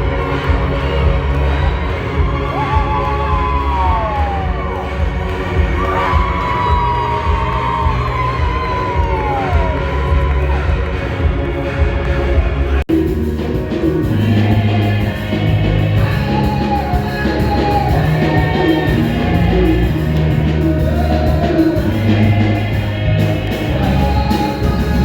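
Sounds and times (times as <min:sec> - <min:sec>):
choir singing gospel: 0:00.0 - 0:25.0
instrumental accompaniment: 0:00.0 - 0:25.0.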